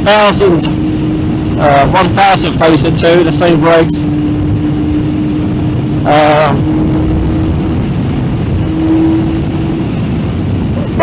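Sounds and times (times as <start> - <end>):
motorcycle engine cruising: 0.0 - 11.0
wind and road rush: 0.0 - 11.0.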